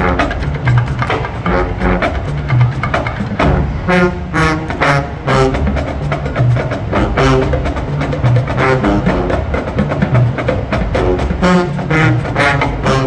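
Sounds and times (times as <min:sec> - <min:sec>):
drumline percussion: 0:00.0 - 0:13.0
marching band playing: 0:00.0 - 0:13.0.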